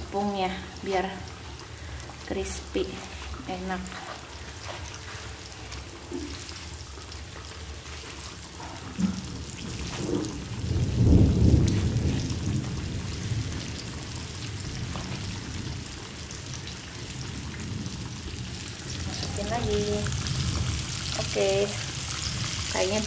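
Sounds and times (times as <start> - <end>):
chicken sizzling in hot oil: 0.9 - 23.0.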